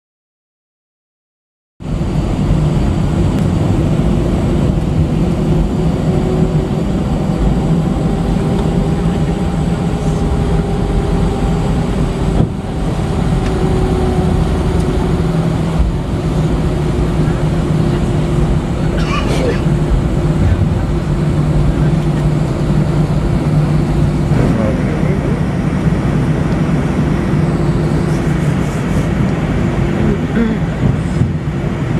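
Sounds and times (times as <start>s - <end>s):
jet engines rumbling: 1.8s - 31.9s.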